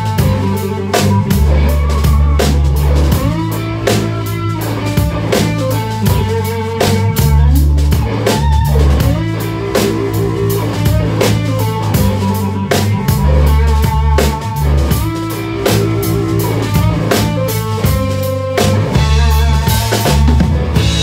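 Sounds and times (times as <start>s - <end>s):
drum kit hits: 0.0s - 21.0s
live rock band music: 0.0s - 21.0s.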